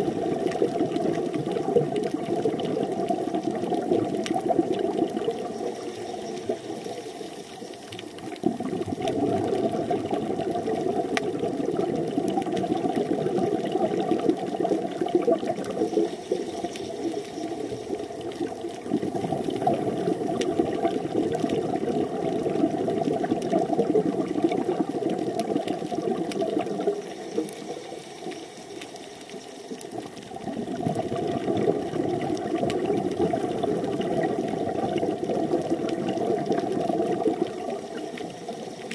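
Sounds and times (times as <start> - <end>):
underwater rushing: 0.0 - 38.9.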